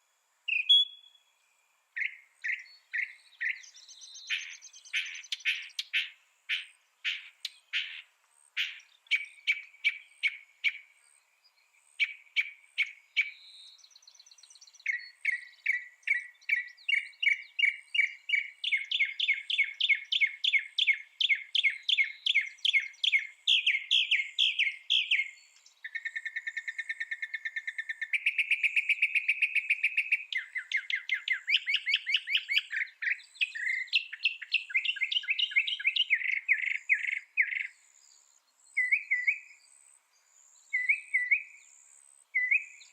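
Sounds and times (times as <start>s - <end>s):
mockingbird singing: 0.5s - 1.2s, 2.0s - 10.9s, 12.0s - 37.8s, 38.7s - 39.6s, 40.7s - 41.8s, 42.4s - 42.9s.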